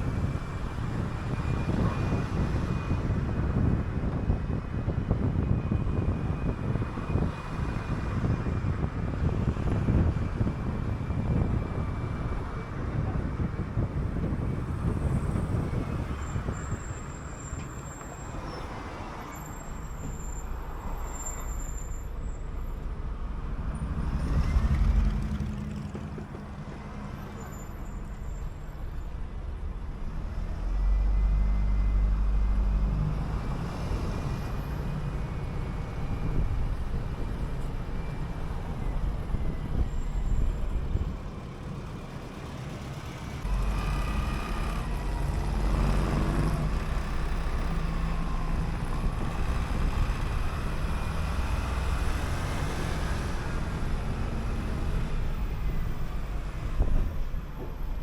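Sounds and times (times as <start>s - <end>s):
bus engine running: 0.0s - 18.4s, 19.2s - 58.0s
traffic noise: 0.0s - 58.0s.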